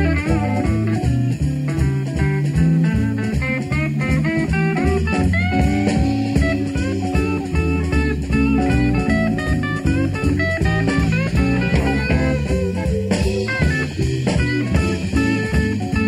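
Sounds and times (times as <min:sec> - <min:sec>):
bass guitar: 0:00.0 - 0:16.0
drum kit steady beat: 0:00.0 - 0:16.0
electric guitar lead lines: 0:00.0 - 0:16.0.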